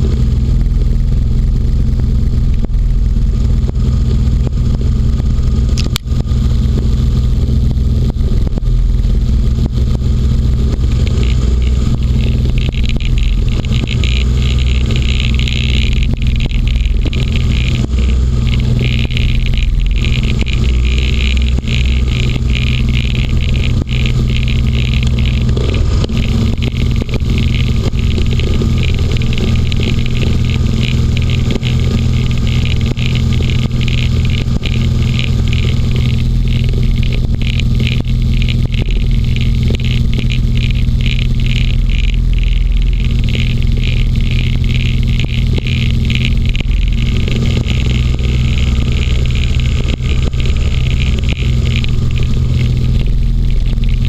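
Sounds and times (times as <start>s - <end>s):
hovercraft engine droning: 0.0s - 54.0s.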